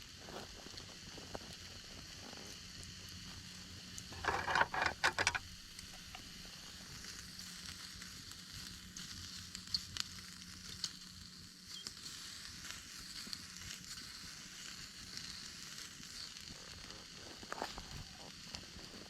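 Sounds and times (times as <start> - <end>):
campfire crackling and hissing: 0.0 - 19.0.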